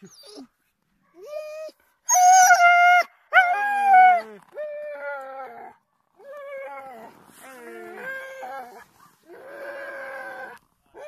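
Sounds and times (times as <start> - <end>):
huskies howling and whining: 1.2 - 11.0.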